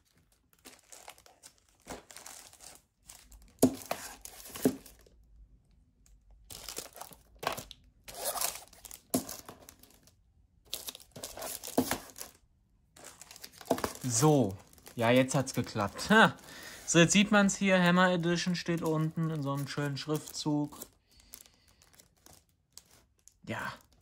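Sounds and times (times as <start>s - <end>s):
cellophane crinkling: 0.0s - 5.2s, 6.1s - 12.4s, 13.0s - 24.0s.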